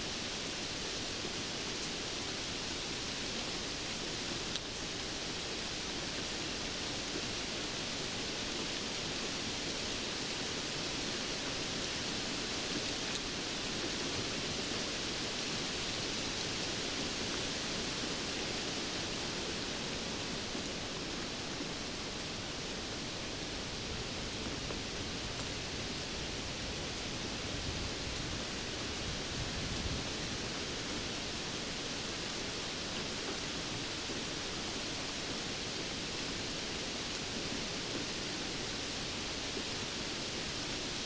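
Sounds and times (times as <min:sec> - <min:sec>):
steady rainfall: 0:00.0 - 0:41.0.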